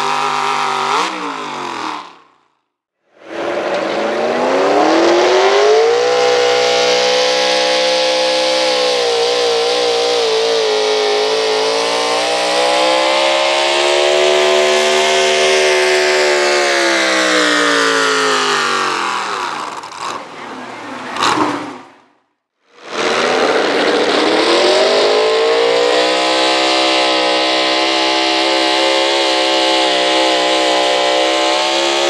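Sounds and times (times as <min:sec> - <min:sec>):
truck engine at full throttle: 0:00.0 - 0:32.0.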